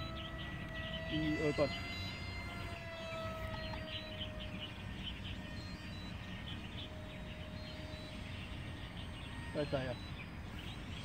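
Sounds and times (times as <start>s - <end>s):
electric ducted fan jet whine: 0.0s - 11.0s.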